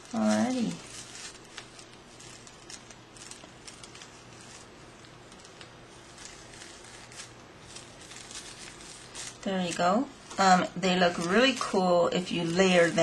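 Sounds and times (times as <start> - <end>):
tissue paper crinkling: 0.0 - 13.0.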